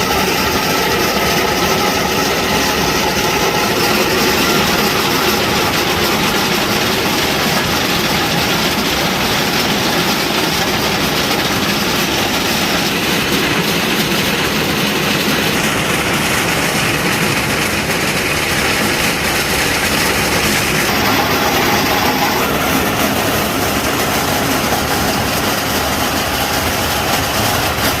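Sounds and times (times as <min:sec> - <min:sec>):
heavy machine running: 0:00.0 - 0:28.0.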